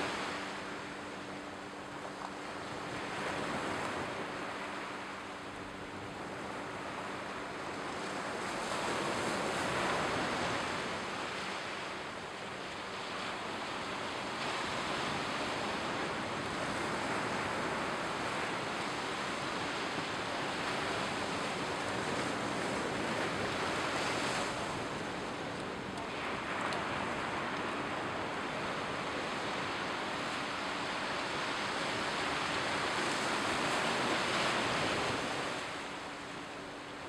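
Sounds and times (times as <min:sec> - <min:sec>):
waves washing onto shore: 0:00.0 - 0:37.0.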